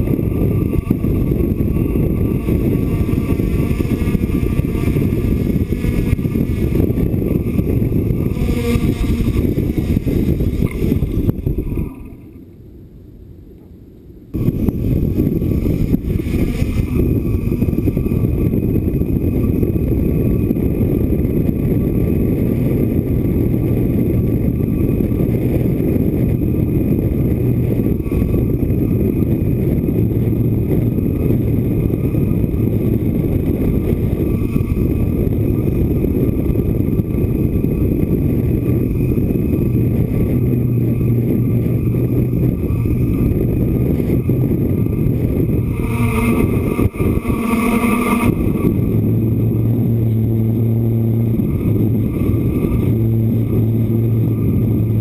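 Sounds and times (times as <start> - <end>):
wind buffeting microphone: 0.0 - 12.6, 13.5 - 55.0
drone motors whining: 0.0 - 12.7, 14.3 - 55.0.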